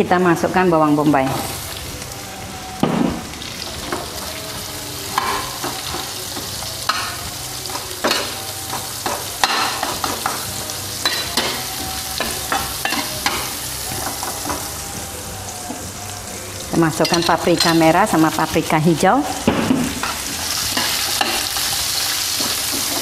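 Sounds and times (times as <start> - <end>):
onion sizzling in oil: 0.0 - 23.0.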